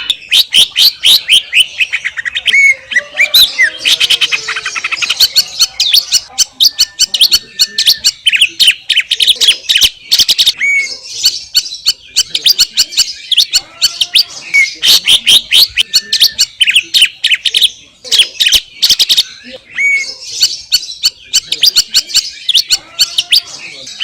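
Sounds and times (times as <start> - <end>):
bird singing chirps and whistles: 0.0 - 24.0.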